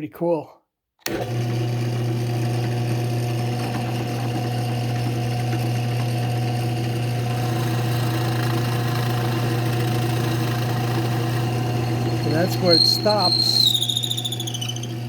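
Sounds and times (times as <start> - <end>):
drill press motor humming: 1.1 - 15.0.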